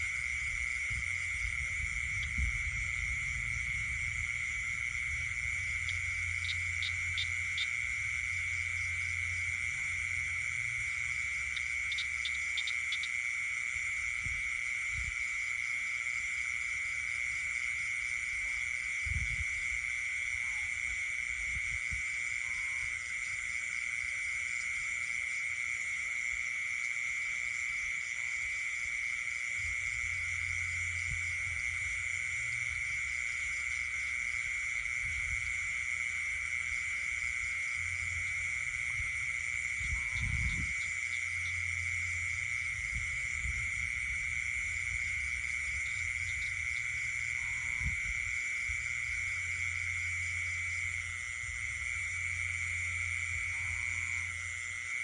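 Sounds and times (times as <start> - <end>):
frogs and insects calling: 0.0 - 55.0.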